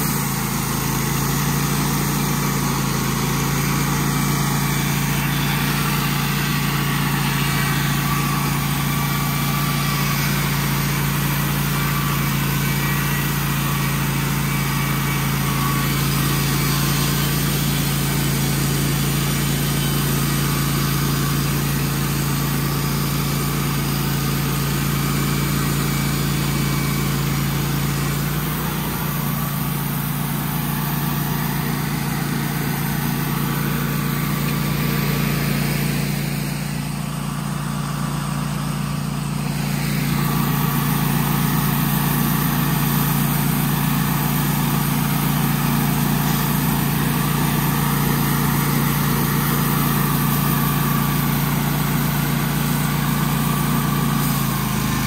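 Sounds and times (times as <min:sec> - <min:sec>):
band blade sawing wood: 0:00.0 - 0:55.0
sawmill engine under load: 0:00.0 - 0:55.0.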